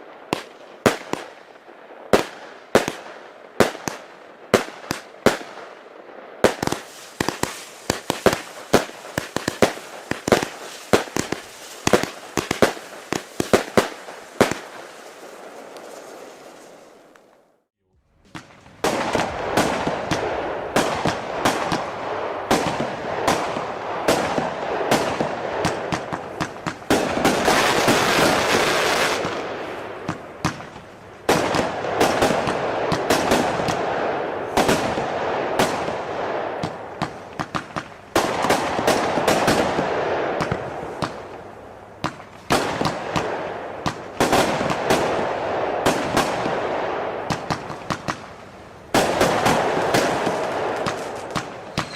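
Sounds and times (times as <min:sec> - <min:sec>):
firework shots and bangs: 0:00.2 - 0:01.5, 0:02.1 - 0:05.8, 0:06.4 - 0:16.9, 0:18.2 - 0:41.4, 0:42.0 - 0:51.9
firework crackling: 0:06.4 - 0:51.9.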